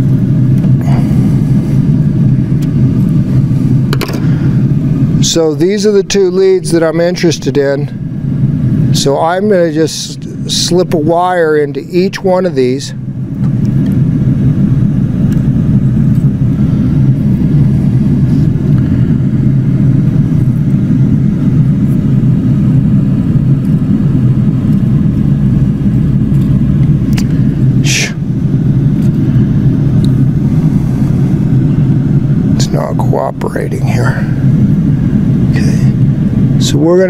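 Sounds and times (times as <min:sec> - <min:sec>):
low machine rumble: 0:00.0 - 0:37.0.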